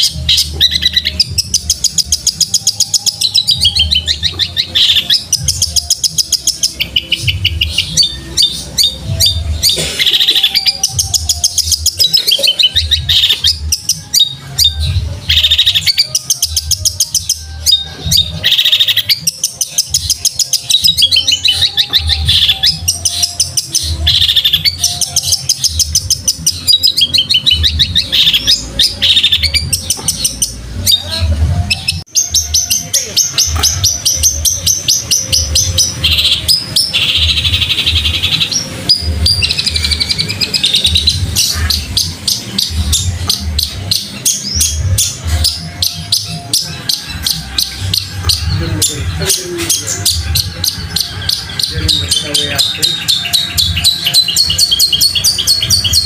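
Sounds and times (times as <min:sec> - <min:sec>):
sparrows chirping and chattering: 0:00.0 - 0:56.0.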